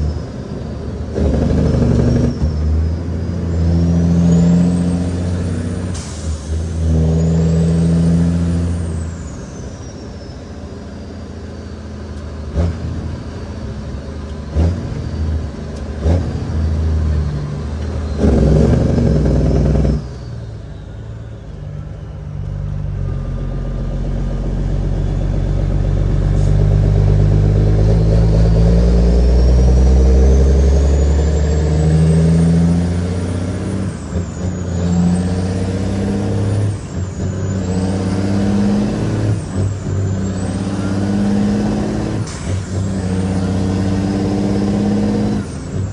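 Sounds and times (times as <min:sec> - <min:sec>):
truck diesel engine pulling hard: 0:00.0 - 0:45.9.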